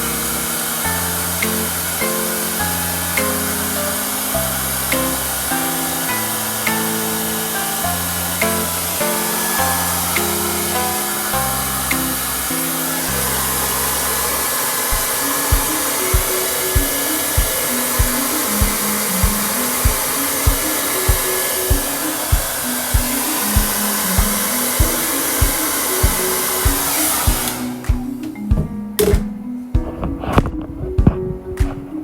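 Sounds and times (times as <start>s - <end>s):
background music with beat: 0.0s - 14.0s, 14.6s - 32.0s
hair dryer blowing: 0.0s - 28.1s.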